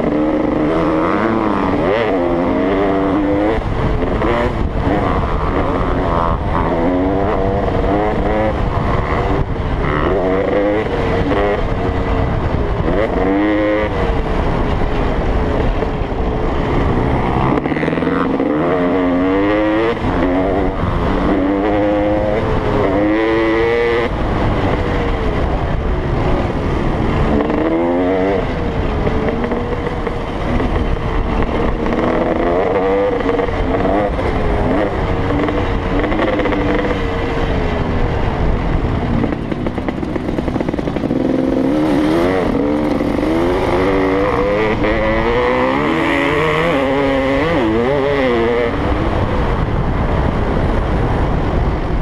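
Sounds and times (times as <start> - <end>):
dirt bike engine accelerating: 0.0 - 52.0.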